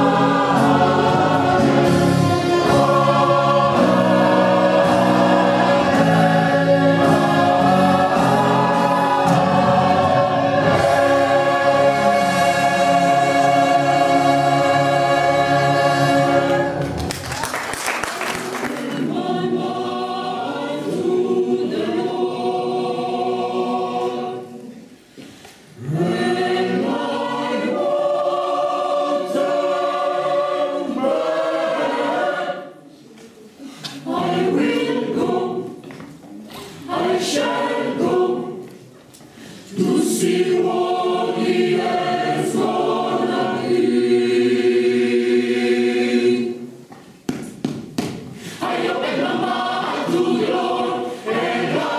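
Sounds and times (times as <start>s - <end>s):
choir singing: 0.0s - 17.1s, 18.4s - 46.9s, 48.4s - 51.9s.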